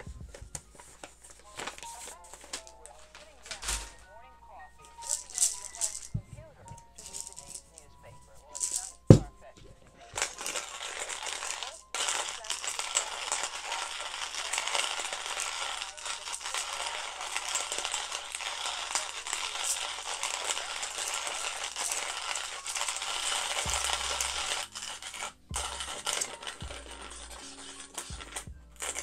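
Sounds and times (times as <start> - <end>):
hand coffee grinder crunching beans: 0.0 - 4.0, 4.8 - 7.9, 8.5 - 9.3, 10.0 - 29.0.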